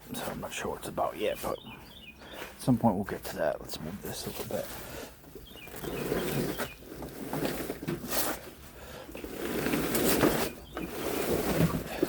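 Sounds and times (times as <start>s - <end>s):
rustling and scraping of clutter: 0.0s - 12.0s.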